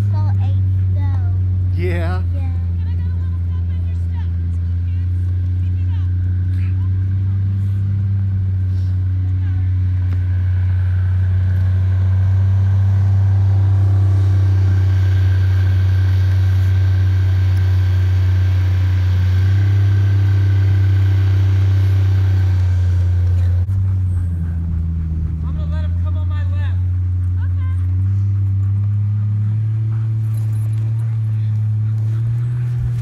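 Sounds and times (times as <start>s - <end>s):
snowmobile engine droning: 0.0s - 33.0s.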